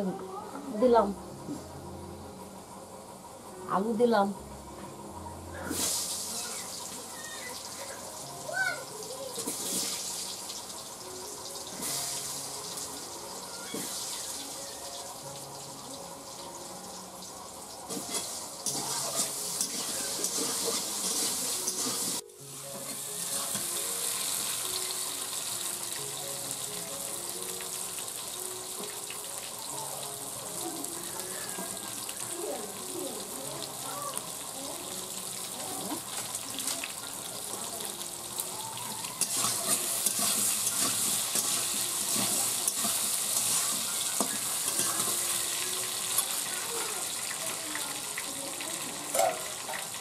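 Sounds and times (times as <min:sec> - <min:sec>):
faint background music: 0:00.0 - 0:50.0
potatoes sizzling in hot oil: 0:05.6 - 0:50.0.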